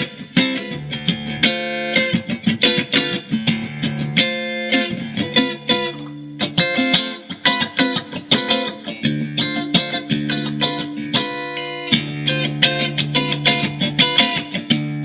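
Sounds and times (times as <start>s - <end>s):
electric guitar playing: 0.0s - 15.0s.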